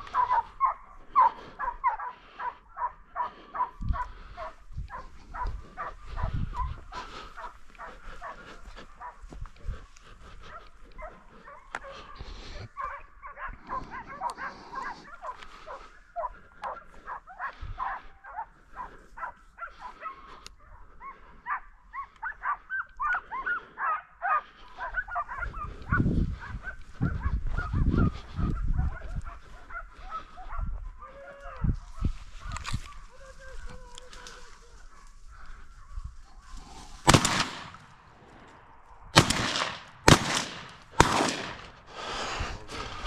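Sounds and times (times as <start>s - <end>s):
hounds baying and yelping: 0.0s - 43.0s.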